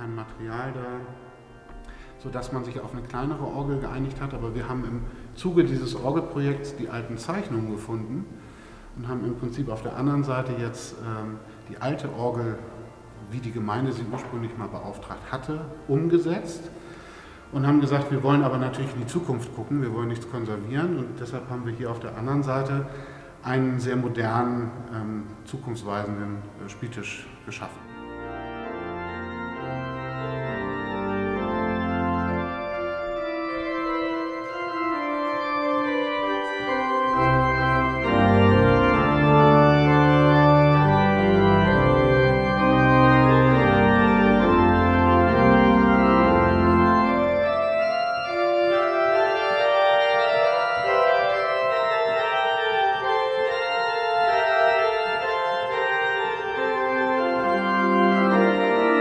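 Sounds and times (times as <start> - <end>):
deep organ pedal bass notes: 0.0 - 59.0
pipe organ chords: 0.0 - 59.0.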